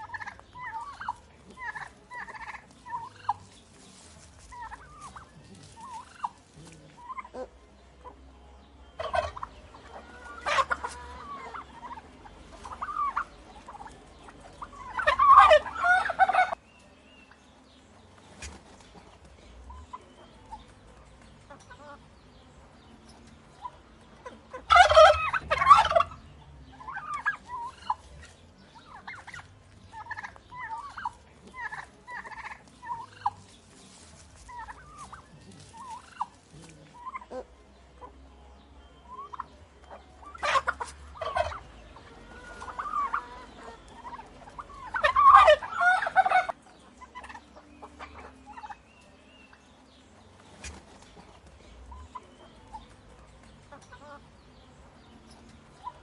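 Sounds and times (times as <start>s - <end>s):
turkey gobbling: 0.0s - 8.3s, 8.9s - 16.6s, 21.5s - 22.0s, 23.5s - 38.2s, 39.0s - 48.9s, 50.4s - 54.2s, 55.7s - 56.0s.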